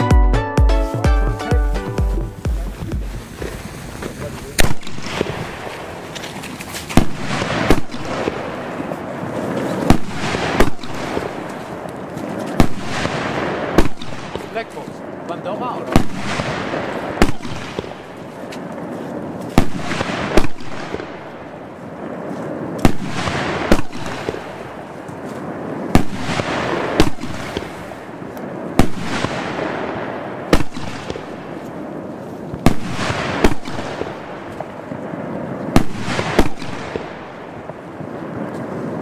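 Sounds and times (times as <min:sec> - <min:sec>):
hissing crackle: 0:02.2 - 0:39.0
firework bangs: 0:02.3 - 0:39.0.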